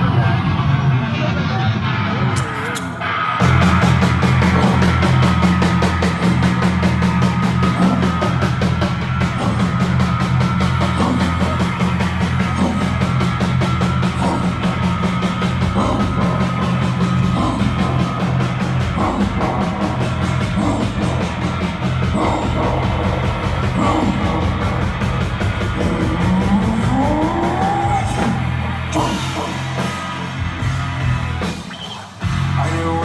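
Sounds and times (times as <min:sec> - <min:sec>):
live concert music: 0:00.0 - 0:33.0.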